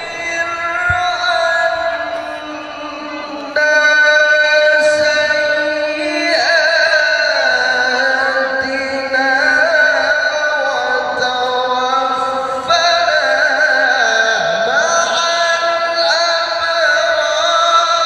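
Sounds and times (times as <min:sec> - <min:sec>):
man reciting melodically into microphone: 0:00.0 - 0:18.0.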